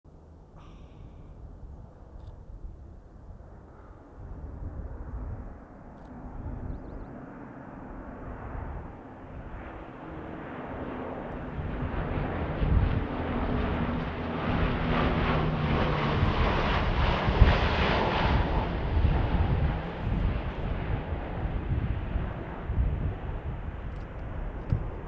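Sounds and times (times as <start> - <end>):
propeller planes flying past: 0.1 - 25.0.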